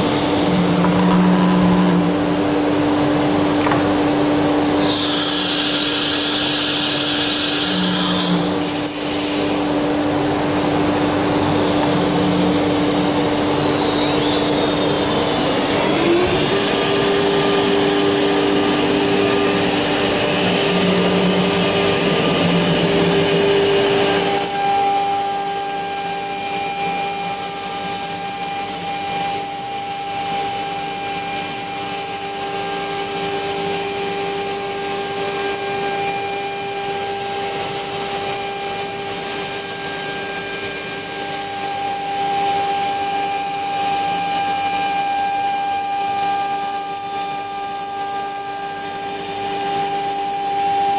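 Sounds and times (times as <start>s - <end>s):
dust collector suction rush: 0.0s - 45.0s
router spindle whine: 0.0s - 50.9s.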